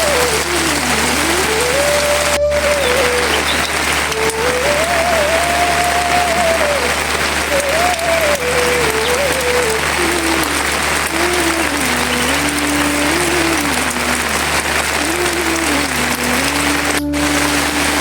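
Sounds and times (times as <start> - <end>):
heavy rain falling: 0.0 - 18.0
slow soft melody: 0.0 - 18.0.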